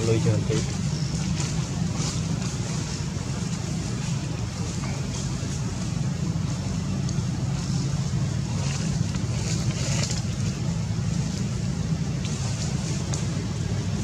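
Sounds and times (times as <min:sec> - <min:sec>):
faint rustles: 0:00.0 - 0:14.0.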